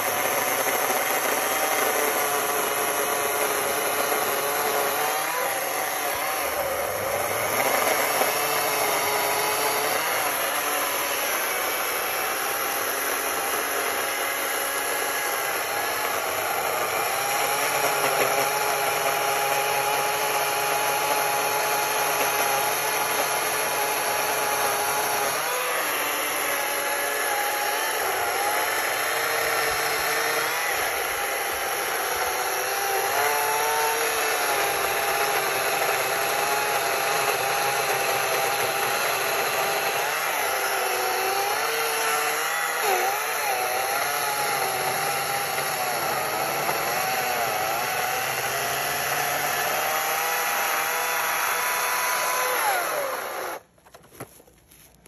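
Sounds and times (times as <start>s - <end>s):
electric chainsaw motor whine: 0.0s - 53.7s
chain sawing wood: 0.0s - 55.0s.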